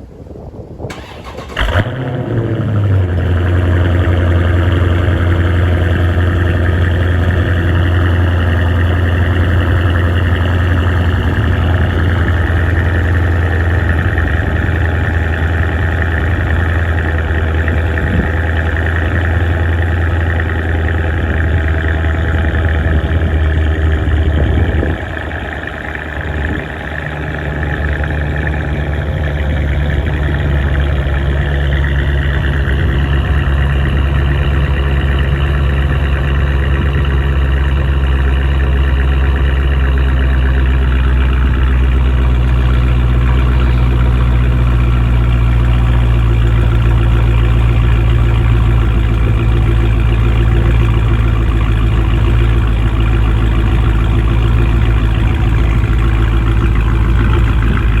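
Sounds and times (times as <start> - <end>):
car engine idling: 0.9 - 58.0.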